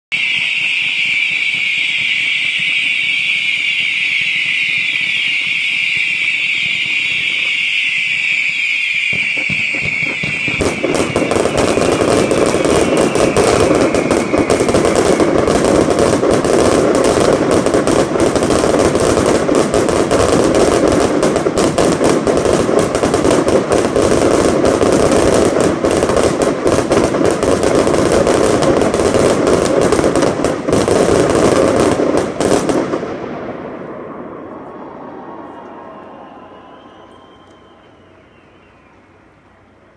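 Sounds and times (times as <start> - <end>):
rapid firework bangs and crackling: 0.1 - 34.2
firework fountain hissing: 0.2 - 34.2.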